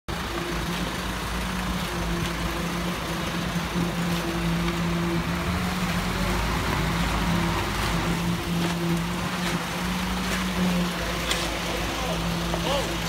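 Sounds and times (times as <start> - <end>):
concrete mixer truck humming: 0.1 - 13.0.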